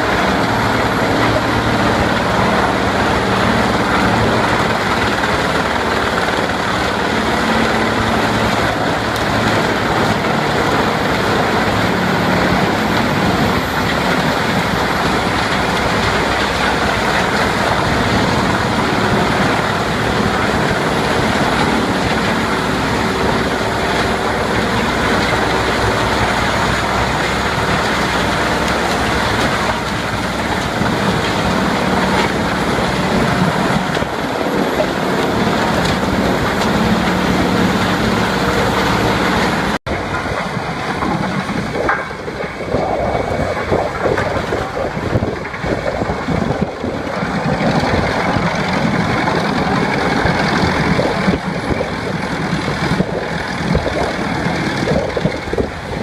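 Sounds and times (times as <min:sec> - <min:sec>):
engine drone: 0:00.0 - 0:56.0
wood chipper running: 0:00.0 - 0:56.0.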